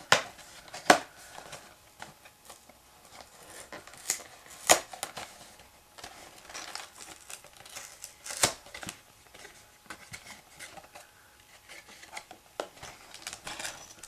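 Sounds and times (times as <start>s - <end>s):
cardboard crinkling and rustling: 0.0s - 14.0s.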